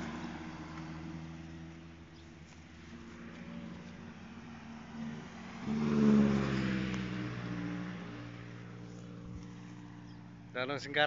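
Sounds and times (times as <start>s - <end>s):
vehicle engine running: 0.0s - 11.0s
vehicle passing by: 0.0s - 11.0s.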